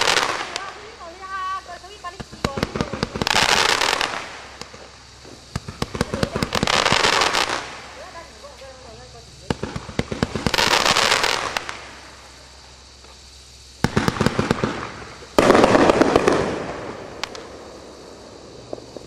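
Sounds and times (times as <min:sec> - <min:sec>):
fireworks sharp reports: 0:00.0 - 0:13.1, 0:13.8 - 0:19.0
fireworks crackling: 0:00.0 - 0:19.0.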